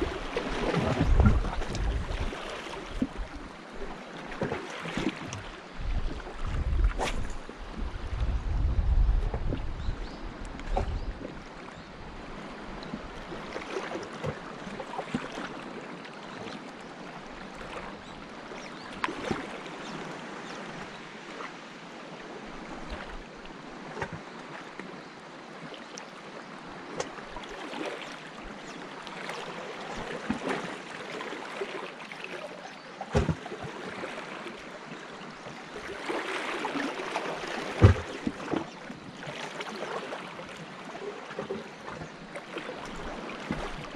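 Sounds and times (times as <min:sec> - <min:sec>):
waves lapping against rocks: 0:00.0 - 0:21.6, 0:26.7 - 0:43.9.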